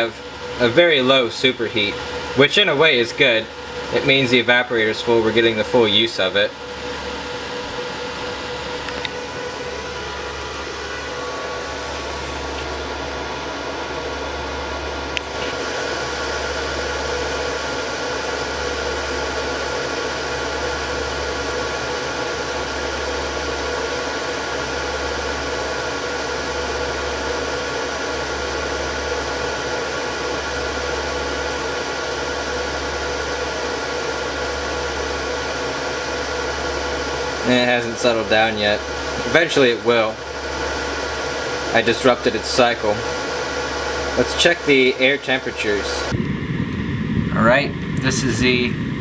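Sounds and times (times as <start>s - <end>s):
heat pump machinery humming: 0.0s - 49.0s.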